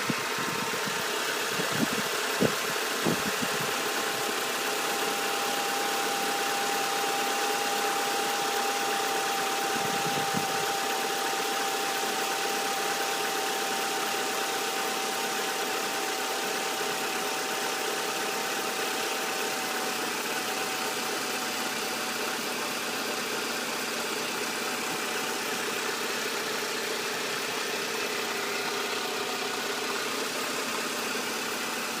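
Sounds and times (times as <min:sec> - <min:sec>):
car engine idling: 0:00.0 - 0:32.0
high engine whine: 0:00.0 - 0:32.0.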